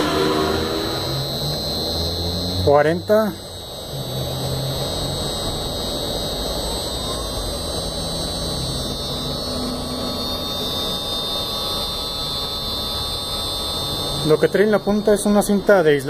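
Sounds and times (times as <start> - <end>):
spindle motor whining: 0.0 - 16.0.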